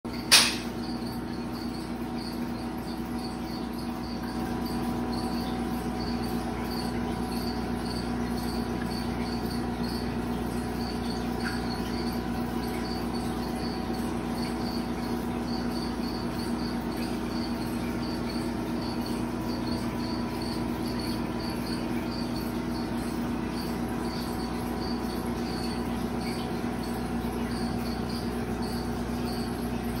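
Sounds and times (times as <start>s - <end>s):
aquarium equipment humming: 0.1s - 30.0s.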